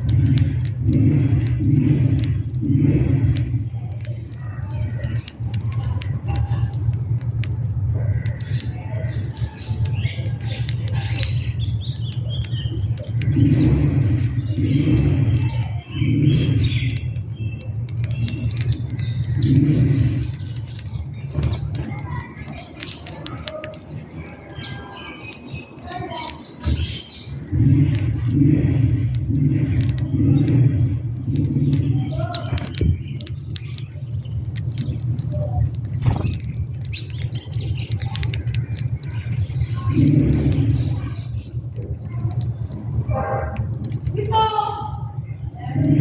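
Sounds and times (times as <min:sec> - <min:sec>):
steady low rumble: 0:00.0 - 0:24.4, 0:25.0 - 0:46.0
birds pecking: 0:00.0 - 0:46.0.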